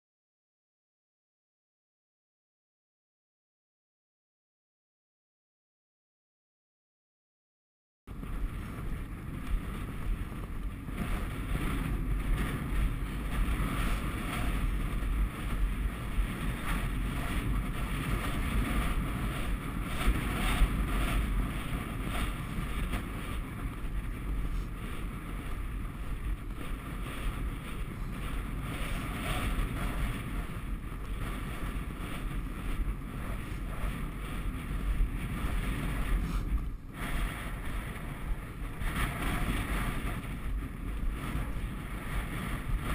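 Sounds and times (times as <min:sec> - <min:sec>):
wind buffeting microphone: 0:08.1 - 0:42.9
horse galloping: 0:08.2 - 0:42.9.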